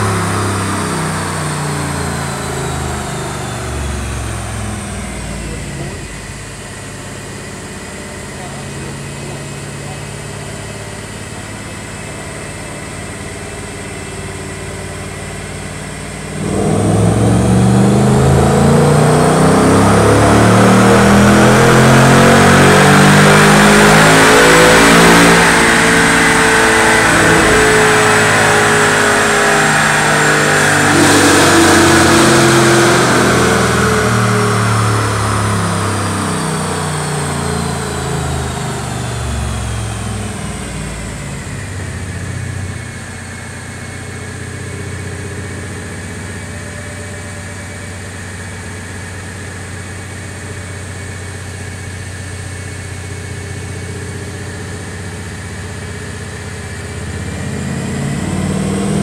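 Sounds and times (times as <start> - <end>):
car engine revving on a dyno: 0.0 - 59.0.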